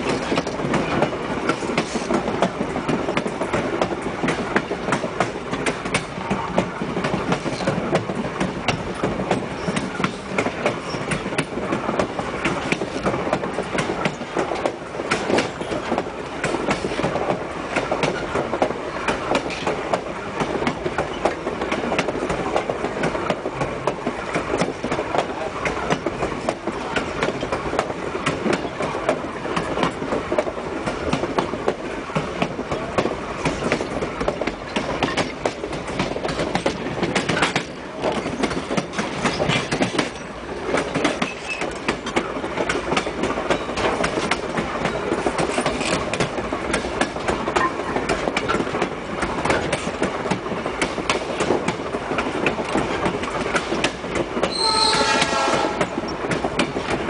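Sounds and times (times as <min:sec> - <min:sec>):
train wheels clattering over joints: 0:00.0 - 0:57.0.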